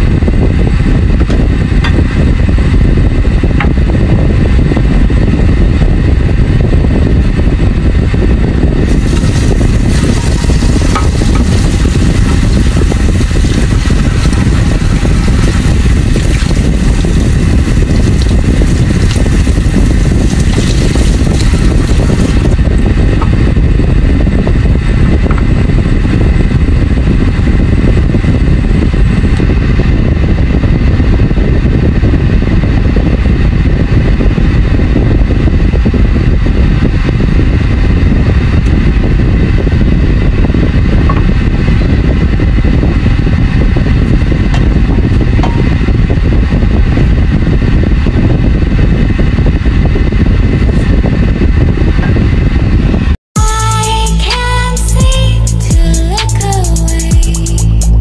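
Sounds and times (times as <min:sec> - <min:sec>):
faint steady whine: 0:00.0 - 0:58.0.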